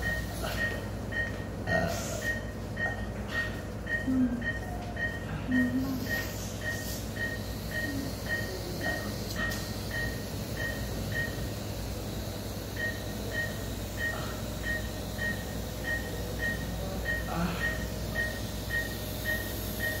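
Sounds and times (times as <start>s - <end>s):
low equipment hum: 0.0s - 20.0s
monitor pulse beeps: 0.0s - 20.0s.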